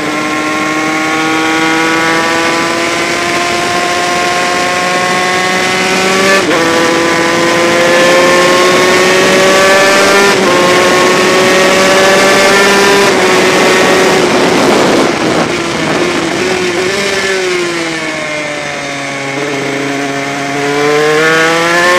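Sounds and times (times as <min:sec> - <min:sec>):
two-stroke racing engine accelerating: 0:00.0 - 0:21.9.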